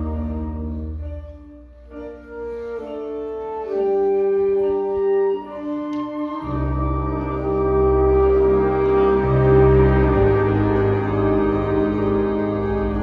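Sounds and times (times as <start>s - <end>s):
wind band playing held chords: 0.0s - 13.0s.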